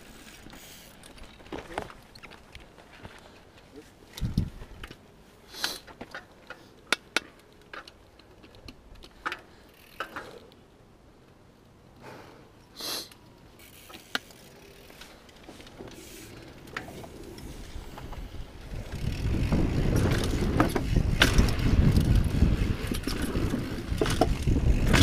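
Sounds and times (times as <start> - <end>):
bike clicks and knocks: 0.0 - 10.6, 13.1 - 25.0
bike rolling rumble: 0.0 - 12.1, 13.3 - 25.0.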